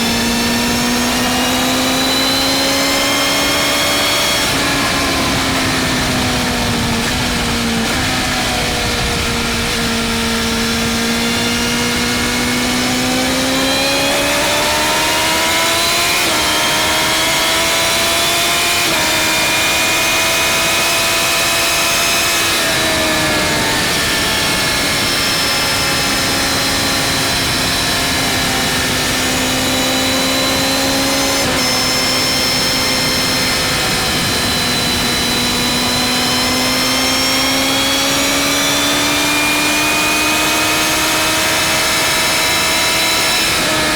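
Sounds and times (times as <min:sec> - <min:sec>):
wind noise: 0:00.0 - 0:17.6, 0:21.9 - 0:43.9
motorcycle engine at speed: 0:00.0 - 0:43.9.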